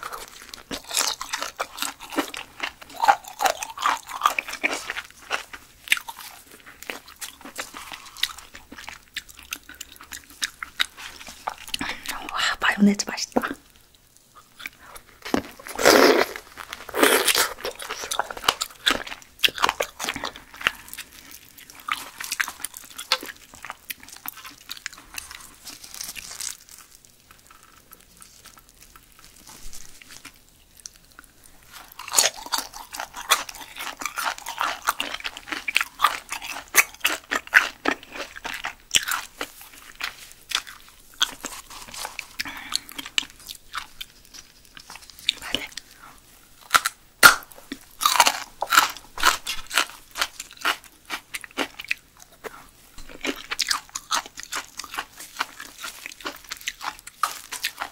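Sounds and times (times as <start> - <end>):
crunchy biting and chewing: 0.0 - 12.0, 14.4 - 57.9.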